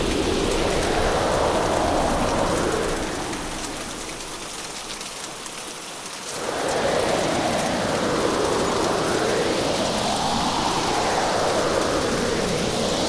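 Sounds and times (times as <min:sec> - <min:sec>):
heavy rushing rain: 0:00.0 - 0:13.0
patter of raindrops: 0:00.0 - 0:13.0.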